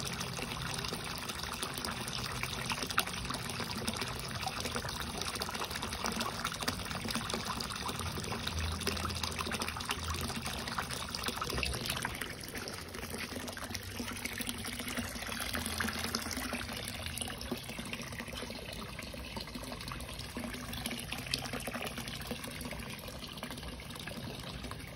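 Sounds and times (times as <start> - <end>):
water pouring from pipe into pond: 0.0 - 24.9.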